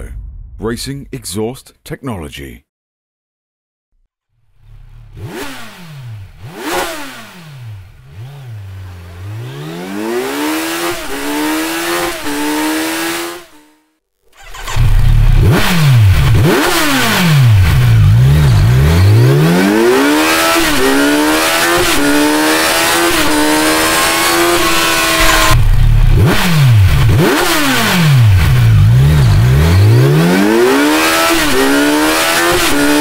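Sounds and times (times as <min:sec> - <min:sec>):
motorcycle engine revving: 0:04.5 - 0:33.0.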